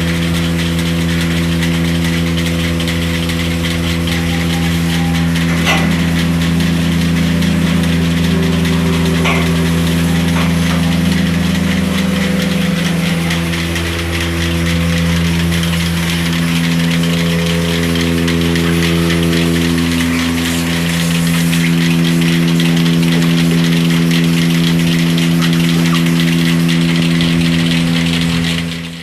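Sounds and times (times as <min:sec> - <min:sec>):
machine engine humming: 0:00.0 - 0:29.0.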